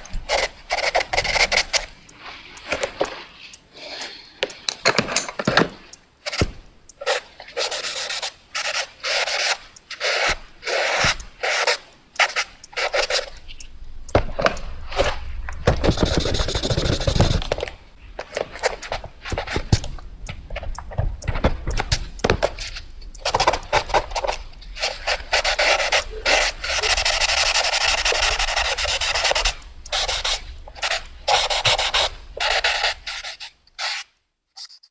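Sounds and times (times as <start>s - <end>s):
drawing tool scratching paper: 0.0s - 20.0s, 21.0s - 34.9s.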